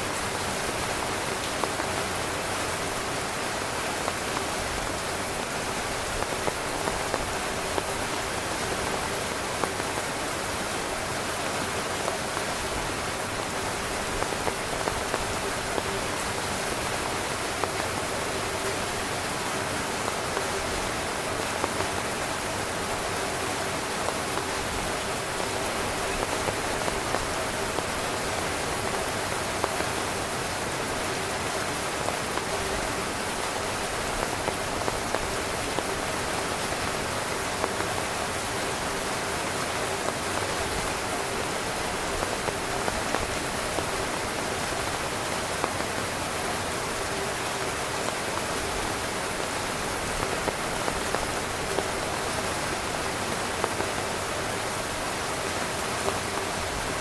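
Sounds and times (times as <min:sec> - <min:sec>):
heavy rain on tent fabric: 0:00.0 - 0:57.0.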